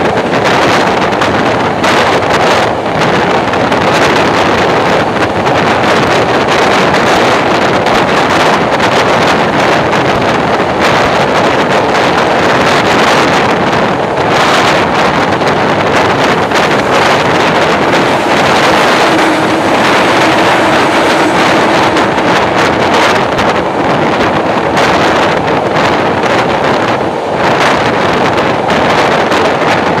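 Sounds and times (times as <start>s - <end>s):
train wheels on rails: 0.0s - 30.0s
wind buffeting microphone: 0.0s - 30.0s.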